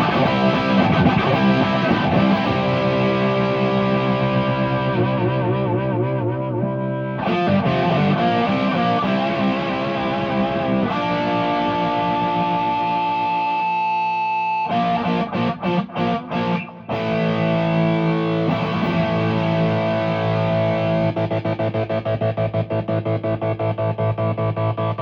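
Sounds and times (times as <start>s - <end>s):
distorted electric guitar chords: 0.0s - 25.0s.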